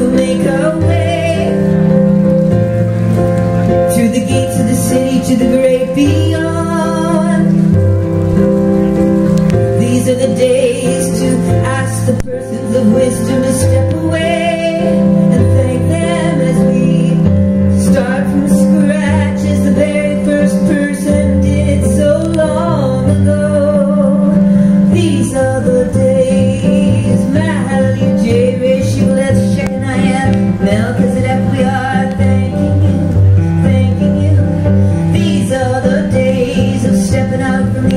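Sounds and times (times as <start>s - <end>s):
woman singing into a microphone: 0.0s - 2.2s, 3.7s - 8.2s, 9.5s - 37.9s
keyboard chords: 0.0s - 37.9s.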